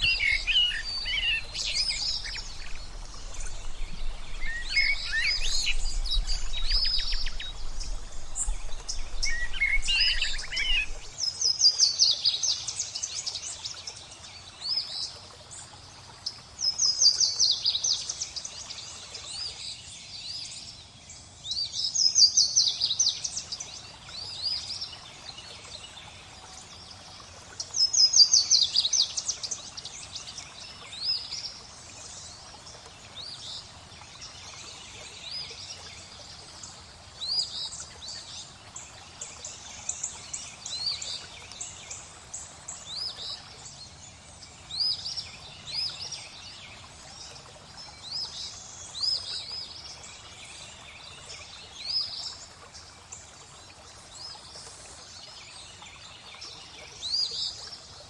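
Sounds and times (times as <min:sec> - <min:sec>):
songbirds chirping: 0:00.0 - 0:21.8, 0:22.9 - 0:58.0
flowing water: 0:00.0 - 0:58.0.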